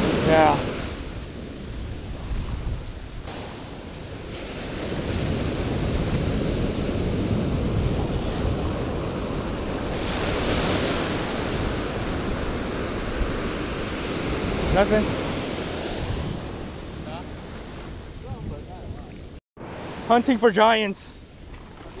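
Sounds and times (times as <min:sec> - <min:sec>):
wind buffeting microphone: 0:00.0 - 0:20.2
surf breaking on the beach: 0:00.0 - 0:22.0.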